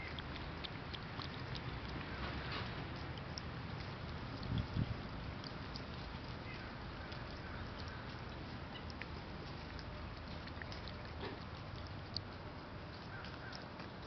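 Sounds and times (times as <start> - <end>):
cat lapping: 0.0 - 14.0.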